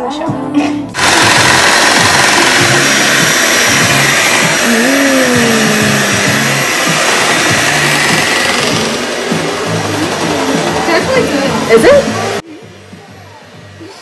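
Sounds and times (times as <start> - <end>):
electric hand mixer whirring: 1.0 - 14.0.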